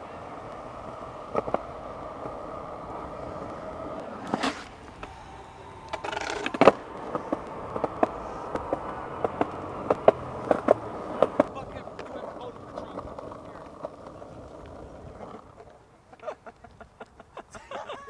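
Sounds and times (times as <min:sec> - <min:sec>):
skateboard wheels rushing: 0:00.0 - 0:17.0
skateboard clacks and knocks: 0:00.2 - 0:15.8.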